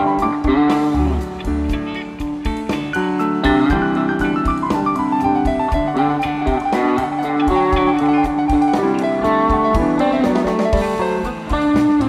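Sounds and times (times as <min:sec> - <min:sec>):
bass guitar: 0:00.0 - 0:12.0
electric guitar melody: 0:00.0 - 0:12.0
steady drum beat: 0:00.0 - 0:12.0.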